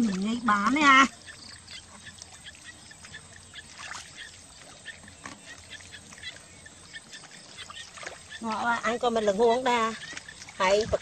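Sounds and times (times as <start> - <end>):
small water splashes: 0.0 - 11.0.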